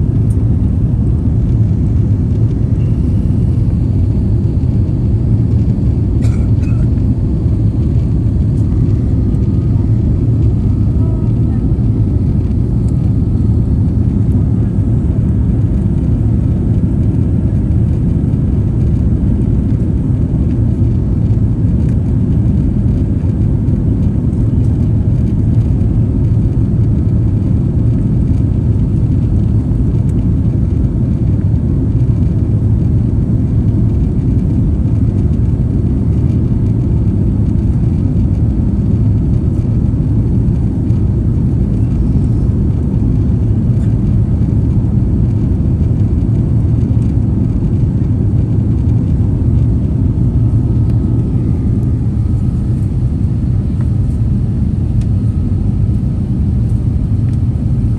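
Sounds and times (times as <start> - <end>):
jet engines rumbling: 0.0 - 57.9.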